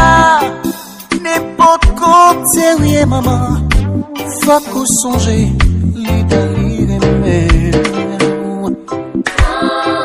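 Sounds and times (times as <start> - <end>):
bass line: 0.0 - 0.7, 1.8 - 9.8.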